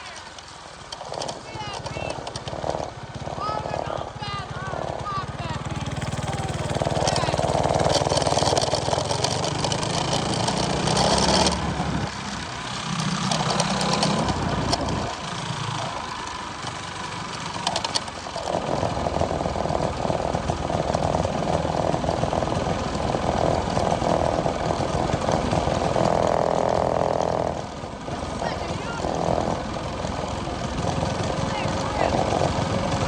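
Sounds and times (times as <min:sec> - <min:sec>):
minibike engine running: 0:00.0 - 0:33.0.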